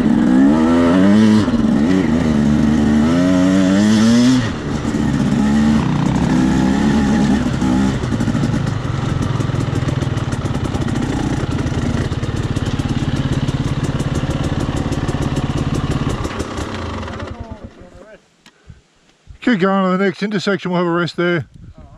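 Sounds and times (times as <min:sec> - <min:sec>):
dirt bike engine revving and idling: 0:00.0 - 0:17.9.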